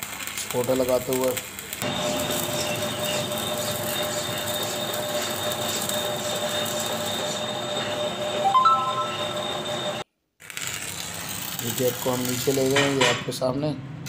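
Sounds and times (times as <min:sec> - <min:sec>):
arc welding crackling sizzle: 0:00.0 - 0:13.2.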